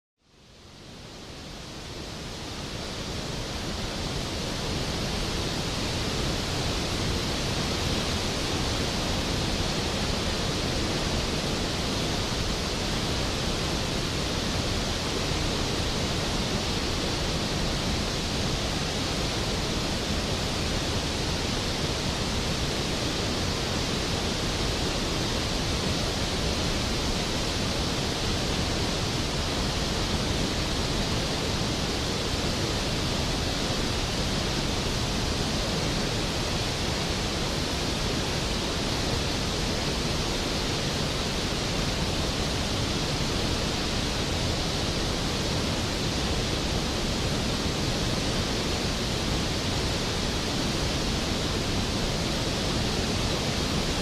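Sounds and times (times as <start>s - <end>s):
waterfall rushing: 1.4s - 54.0s.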